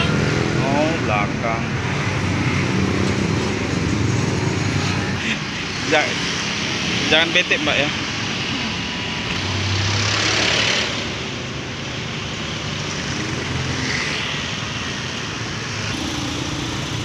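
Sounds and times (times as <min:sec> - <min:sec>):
motorcycles and cars passing: 0:00.0 - 0:17.0.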